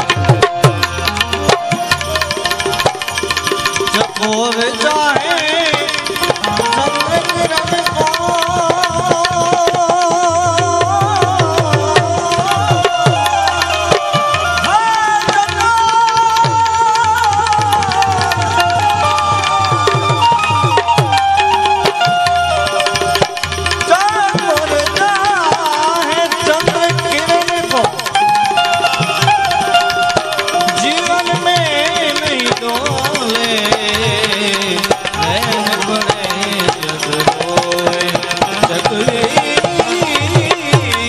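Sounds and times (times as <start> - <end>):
hand drum rhythm: 0.0 - 41.0
harmonium: 0.0 - 41.0
man singing ornamented melody: 3.6 - 20.8, 21.4 - 41.0.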